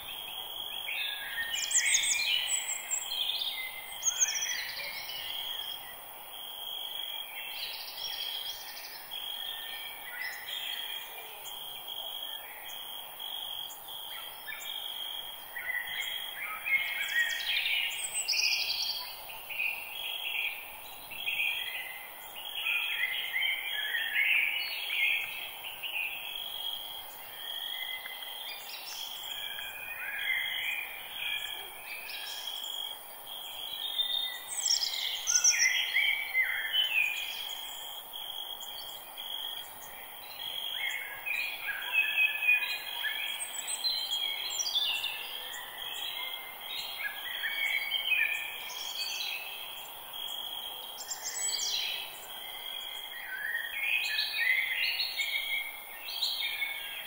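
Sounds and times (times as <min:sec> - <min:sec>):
birds calling and singing: 0:00.0 - 0:06.0, 0:13.6 - 0:50.4, 0:51.0 - 0:57.0.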